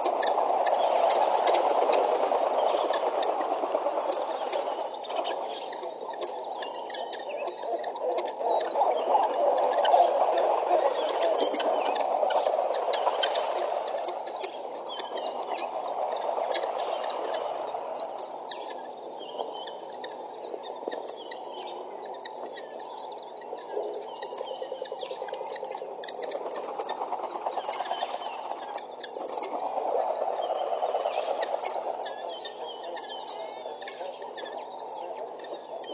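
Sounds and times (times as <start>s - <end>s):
guineafowl flock calling: 0.0s - 35.9s.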